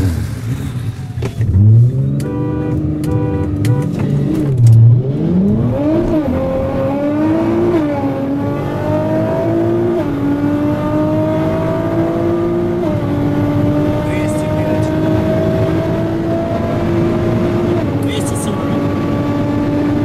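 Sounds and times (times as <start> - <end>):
car engine revving and accelerating: 0.0 - 20.0.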